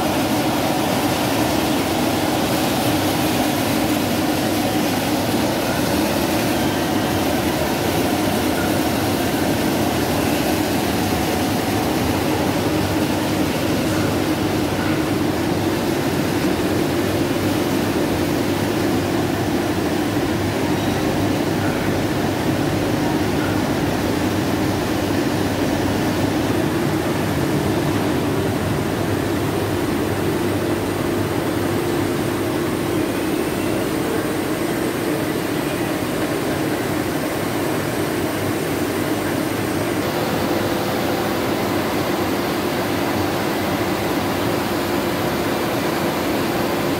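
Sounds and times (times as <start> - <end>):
printing press machine hum: 0.0 - 46.9.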